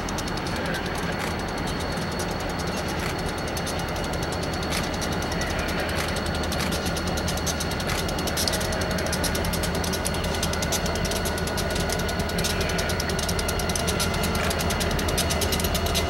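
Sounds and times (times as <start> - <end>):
diesel locomotive drone: 0.0 - 16.0
train wheels clicking over rail joints: 0.0 - 16.0.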